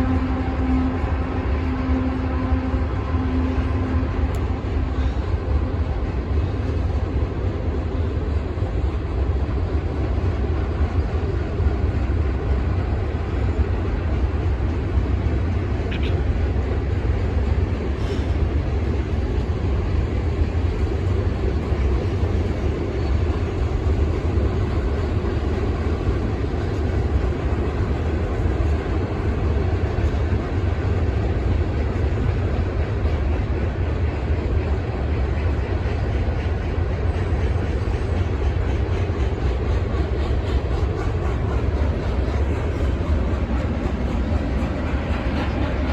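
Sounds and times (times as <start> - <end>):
train rolling past: 0.0 - 45.9.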